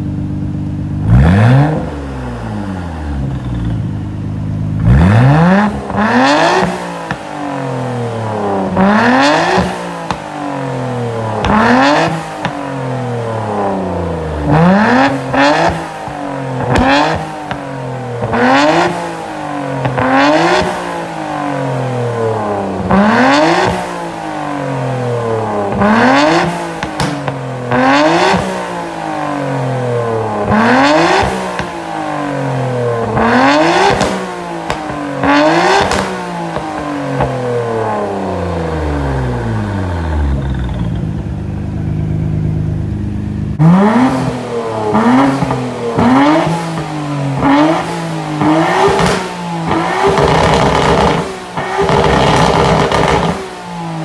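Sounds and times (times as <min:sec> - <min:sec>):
car engine idling: 0:00.0 - 0:54.0
car engine revving: 0:00.0 - 0:54.0.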